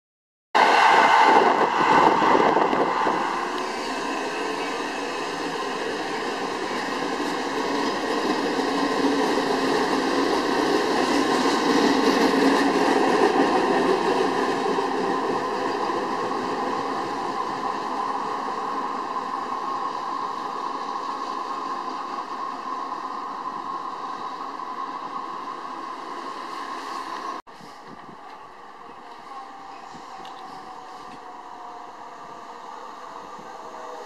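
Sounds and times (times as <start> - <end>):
train wheels rumbling on rails: 0.6 - 34.0.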